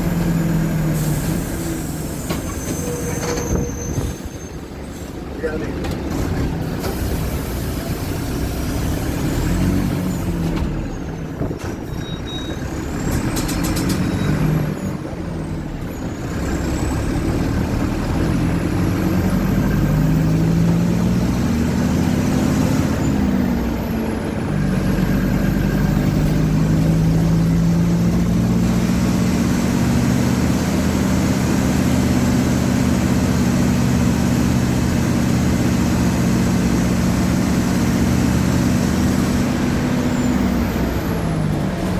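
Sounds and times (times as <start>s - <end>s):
bus diesel engine under load: 0.0s - 41.9s.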